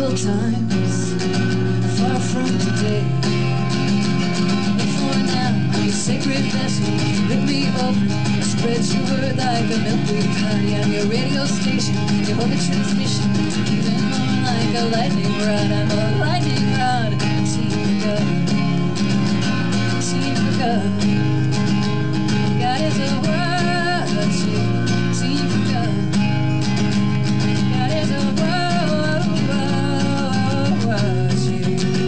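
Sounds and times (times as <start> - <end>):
acoustic guitar strumming: 0.0 - 32.0
woman singing: 0.0 - 32.0.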